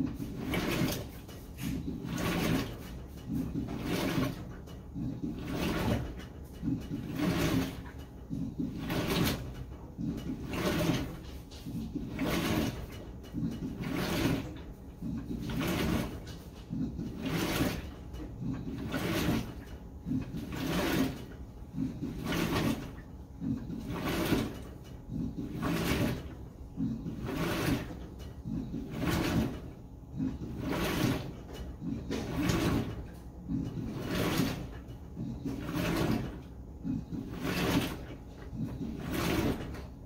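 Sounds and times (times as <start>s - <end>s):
washing machine swishing laundry: 0.0s - 40.0s.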